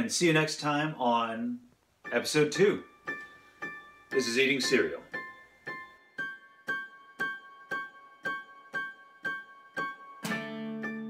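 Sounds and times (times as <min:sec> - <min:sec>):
keyboard chords: 0:02.0 - 0:11.0.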